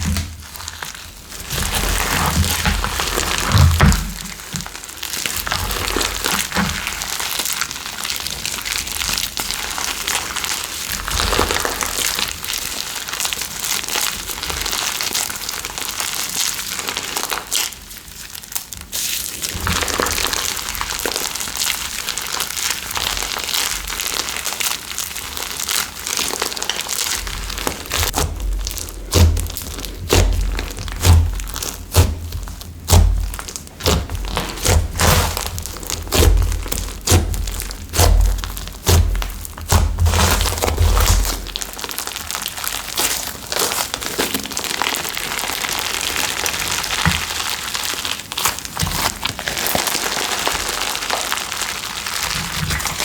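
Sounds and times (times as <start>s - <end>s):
slime squished by hand: 0.0s - 53.0s.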